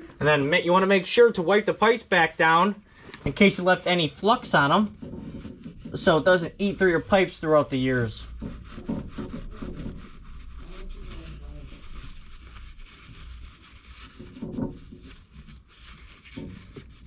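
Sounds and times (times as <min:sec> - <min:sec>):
rag rubbing copper pipes: 0:00.0 - 0:17.0.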